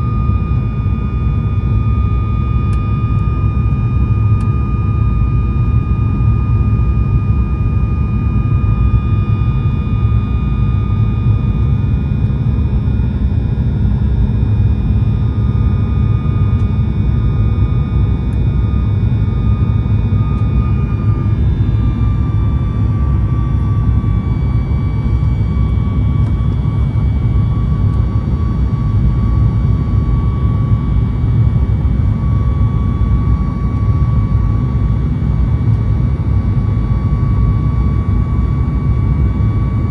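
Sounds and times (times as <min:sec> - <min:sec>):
high engine whine: 0:00.0 - 0:39.9
jet engine roar in cabin: 0:00.0 - 0:39.9.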